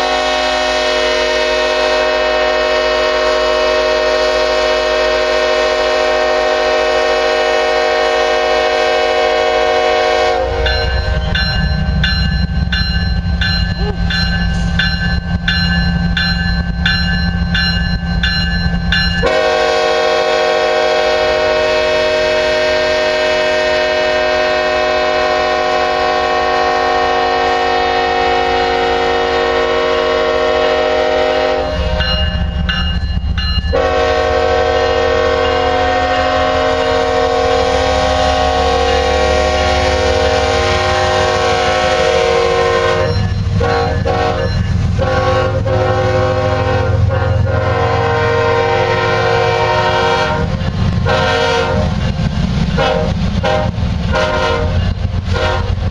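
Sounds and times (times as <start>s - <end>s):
locomotive air horn blasts: 0.0s - 10.8s, 19.2s - 32.1s, 33.7s - 52.1s, 52.7s - 55.9s.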